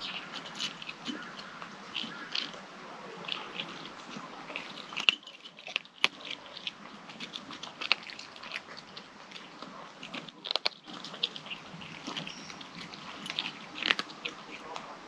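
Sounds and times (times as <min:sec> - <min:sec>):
kitten crunching food: 0:00.0 - 0:15.0.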